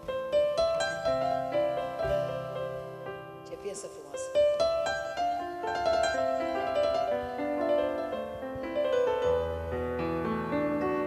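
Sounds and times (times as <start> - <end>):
piano melody over chords: 0.0 - 11.0.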